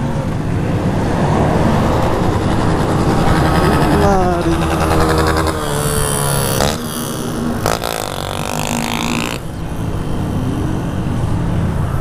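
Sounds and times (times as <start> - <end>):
road and wind noise: 0.0 - 12.0
motorcycle engine revving: 0.8 - 12.0.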